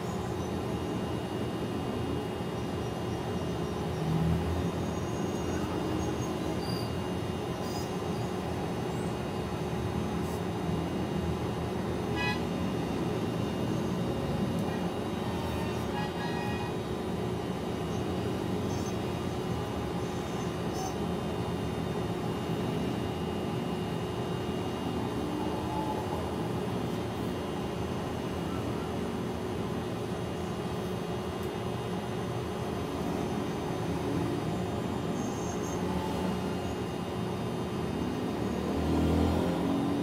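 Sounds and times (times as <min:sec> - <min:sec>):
low mechanical drone: 0:00.0 - 0:40.0.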